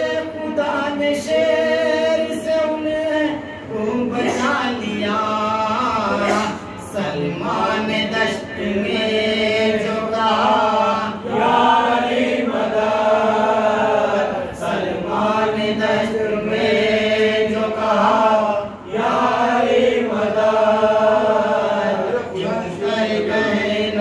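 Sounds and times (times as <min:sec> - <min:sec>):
men chanting together: 0:00.0 - 0:24.0.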